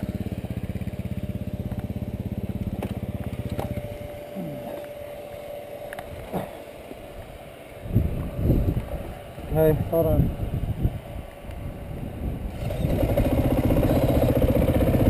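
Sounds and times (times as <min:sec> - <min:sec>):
dirt bike engine idling: 0:00.0 - 0:11.0, 0:11.6 - 0:15.0.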